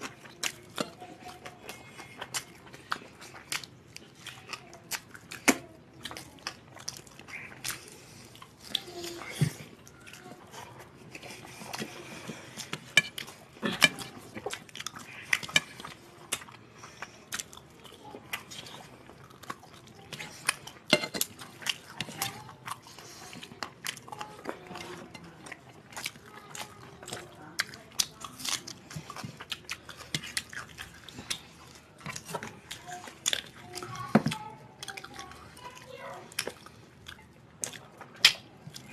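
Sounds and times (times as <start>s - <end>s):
people chewing food: 0.0s - 38.9s.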